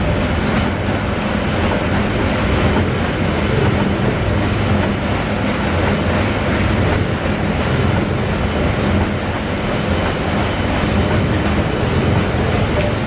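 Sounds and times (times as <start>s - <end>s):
steam engines running: 0.0s - 13.0s.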